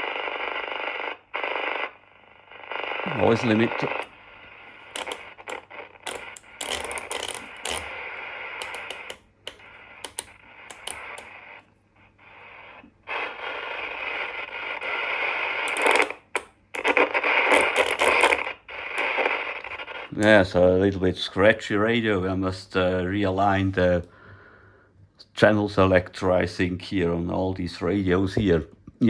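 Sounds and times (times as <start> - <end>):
radio static with crackles: 0.0 - 23.9.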